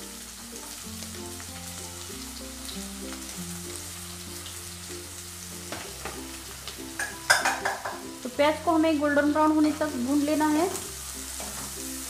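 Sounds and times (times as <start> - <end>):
onions sizzling in hot oil: 0.0 - 12.0
soft background music: 0.0 - 12.0.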